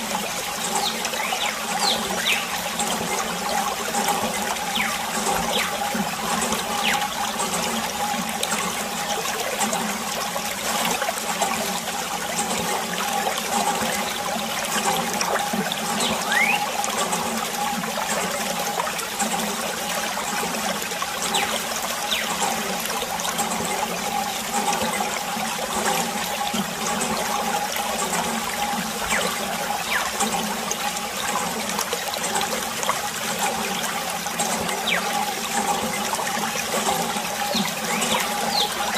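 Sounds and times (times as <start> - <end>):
water trickling into puddle: 0.0 - 38.9.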